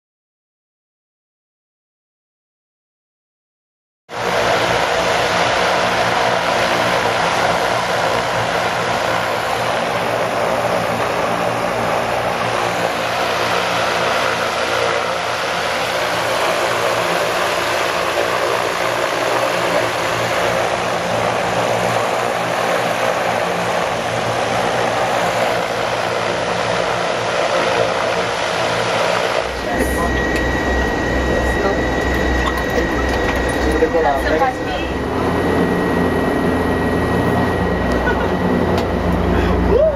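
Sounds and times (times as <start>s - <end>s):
propeller engines running: 4.1s - 39.9s.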